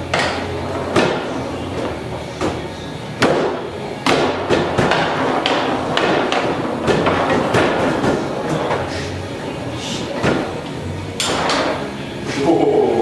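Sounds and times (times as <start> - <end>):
foosball ball knocking: 0.0 - 11.9.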